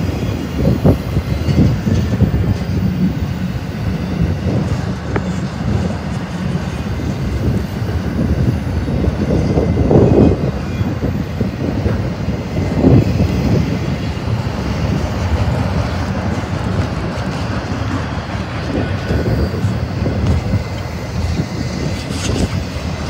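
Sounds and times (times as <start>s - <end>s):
freight train rolling past: 0.0s - 23.0s
steel wheels rumbling on rail: 0.0s - 23.0s.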